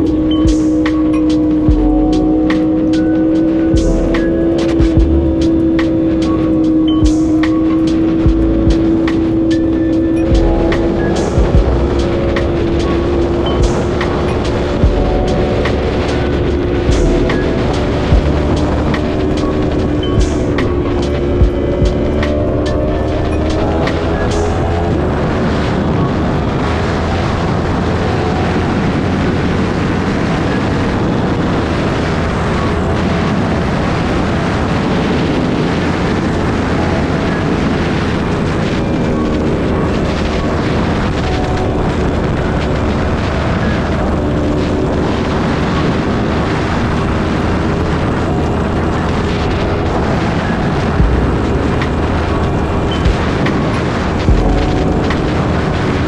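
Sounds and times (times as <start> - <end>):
motorcycle engine running: 0.0 - 25.7, 26.7 - 56.0
wind noise rushing: 0.0 - 56.0.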